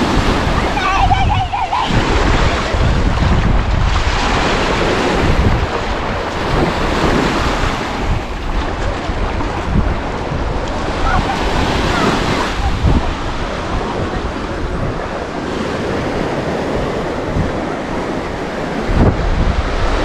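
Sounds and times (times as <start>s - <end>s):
waves breaking on beach: 0.0s - 20.0s
wind buffeting microphone: 0.0s - 20.0s.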